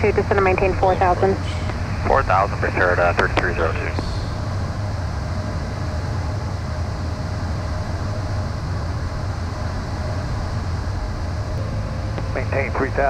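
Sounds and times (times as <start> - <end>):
faint steady whine: 0.0 - 13.0
jet cockpit engine rumble: 0.0 - 13.0.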